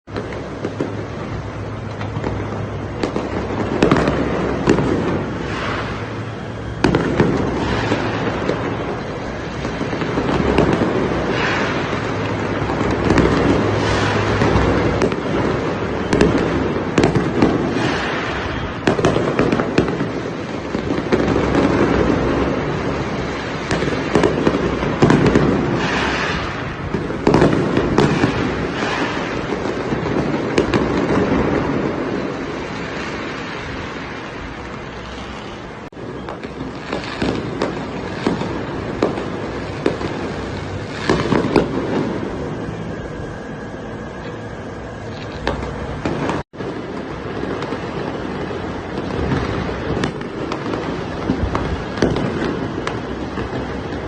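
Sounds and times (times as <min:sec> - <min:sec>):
continuous rumble: 0:00.0 - 0:54.0
fireworks bangs and crackling: 0:00.0 - 0:54.0.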